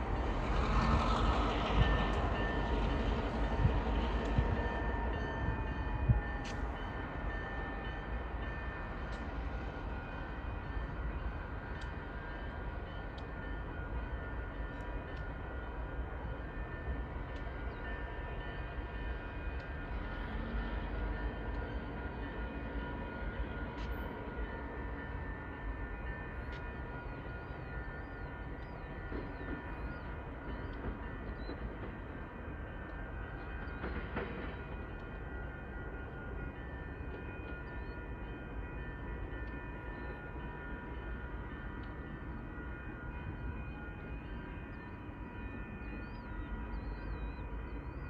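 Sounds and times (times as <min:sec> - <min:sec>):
train low rumble: 0:00.0 - 0:48.0.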